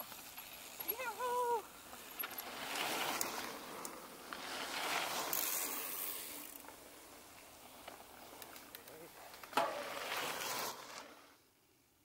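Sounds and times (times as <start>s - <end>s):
bike clicks and rattles: 0.0s - 9.8s
bike tyre noise on dirt: 0.0s - 12.0s.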